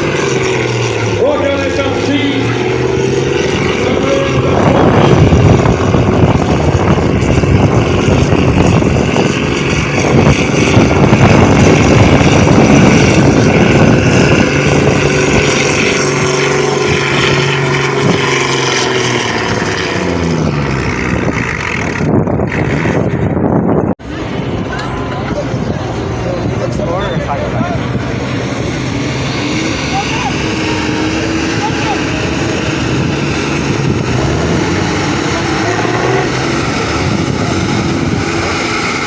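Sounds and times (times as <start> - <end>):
tractor engine at high revs: 0.0 - 39.0.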